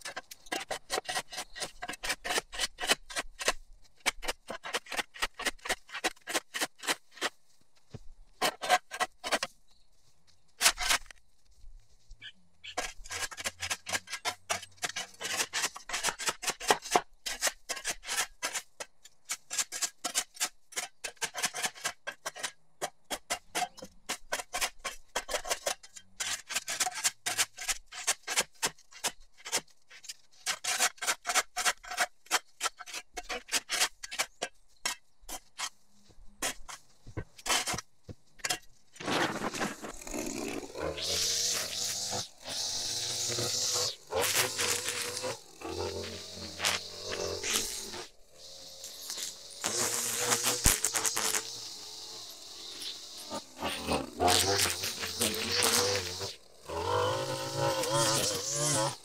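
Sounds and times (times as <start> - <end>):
shovel scraping concrete: 0.0 - 7.4, 8.4 - 9.5, 10.6 - 11.2, 12.6 - 35.8, 36.4 - 51.7, 52.6 - 59.0.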